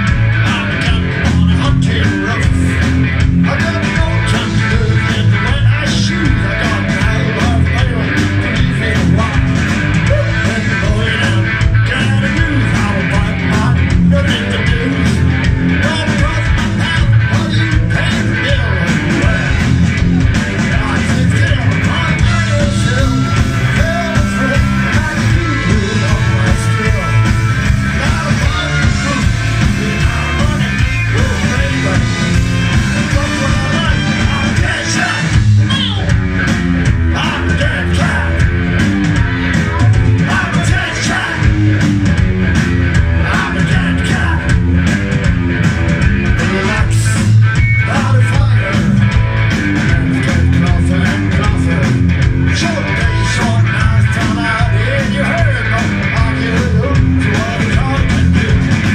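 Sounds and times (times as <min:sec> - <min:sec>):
bass guitar: 0:00.0 - 0:58.9
drums: 0:00.0 - 0:58.9
electric guitar: 0:00.0 - 0:58.9.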